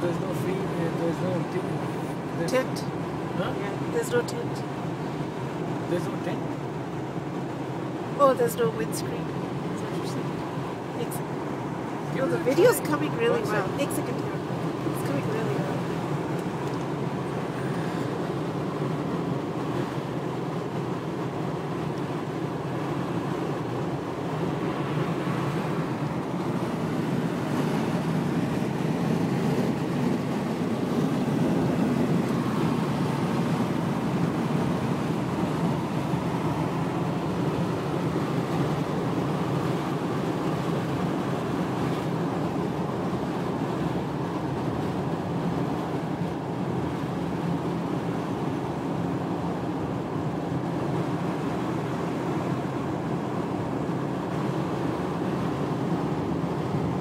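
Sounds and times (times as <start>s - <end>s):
road and wind noise inside car: 0.0s - 57.0s.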